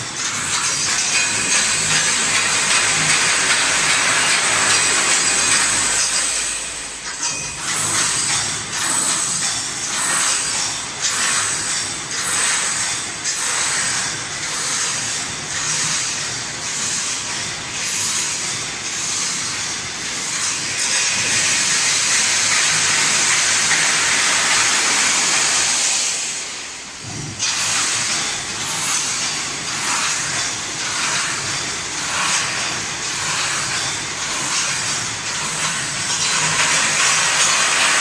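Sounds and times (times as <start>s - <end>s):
welding machine hissing: 0.0s - 38.0s.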